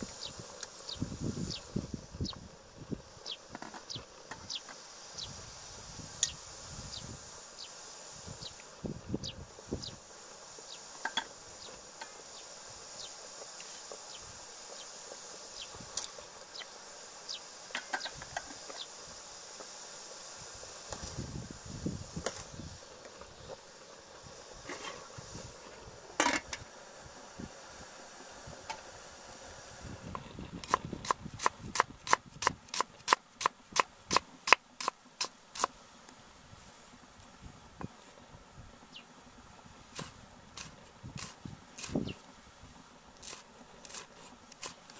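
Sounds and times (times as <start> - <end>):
steady high hiss: 0.0 - 44.9.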